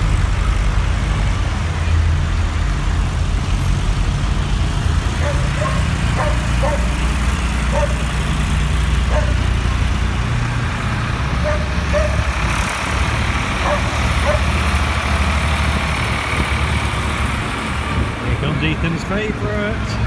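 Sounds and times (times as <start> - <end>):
tractor engines passing by: 0.0 - 20.0.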